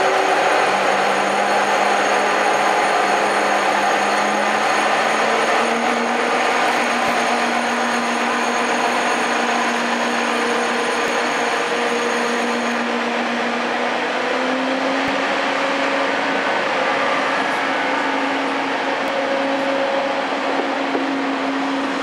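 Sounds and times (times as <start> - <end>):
train cooling fans whirring: 0.0 - 22.0.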